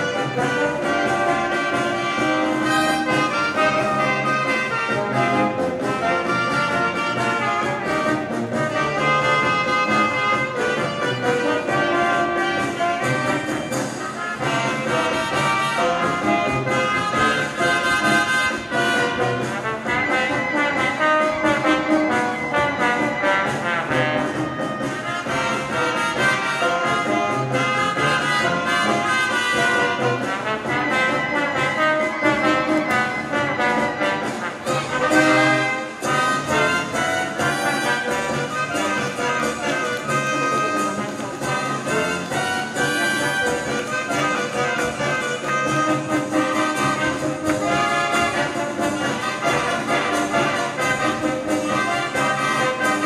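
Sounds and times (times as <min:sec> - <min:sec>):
folk dance music with brass: 0:00.0 - 0:53.0.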